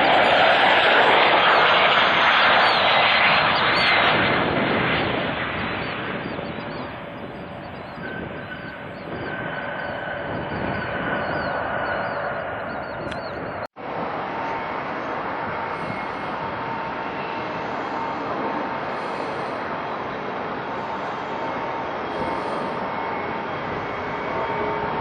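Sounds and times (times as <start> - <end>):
jet airliner engine roar: 0.0 - 25.0
steady engine whine: 0.0 - 25.0.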